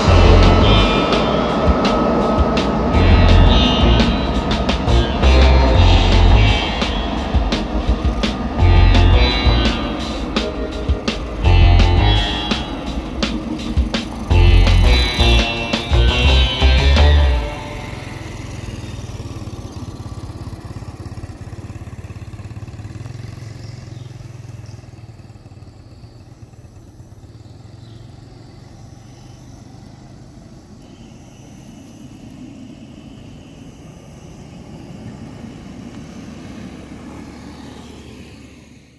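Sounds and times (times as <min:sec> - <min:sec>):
distant jet engines rumbling: 0:00.0 - 0:38.9
motor scooter engine: 0:00.0 - 0:38.9.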